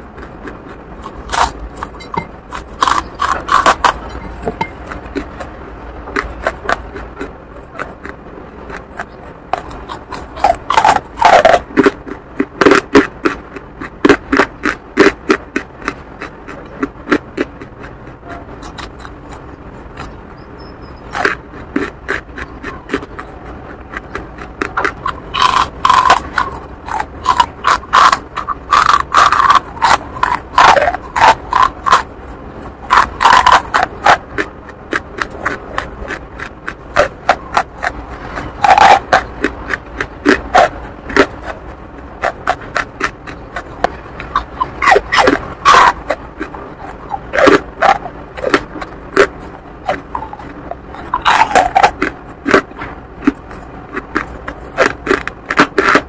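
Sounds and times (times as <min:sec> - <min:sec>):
crunching and chewing charcoal: 0:00.0 - 0:56.0.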